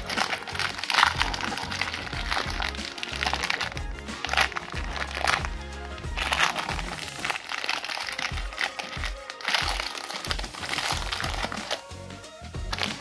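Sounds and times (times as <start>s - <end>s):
plastic shrink-wrap crinkling: 0.0s - 11.9s, 12.7s - 13.0s
background music with steady beat: 0.0s - 13.0s.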